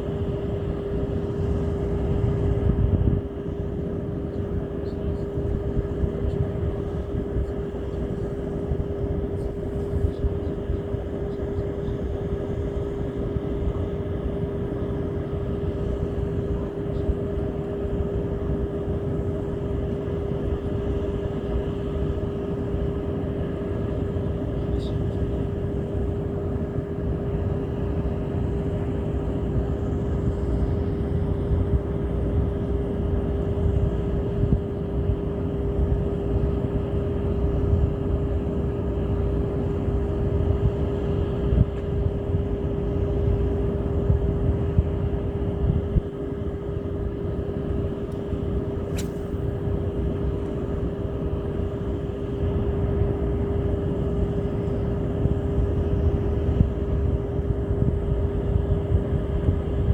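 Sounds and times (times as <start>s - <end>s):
motor drone: 0.0s - 59.9s.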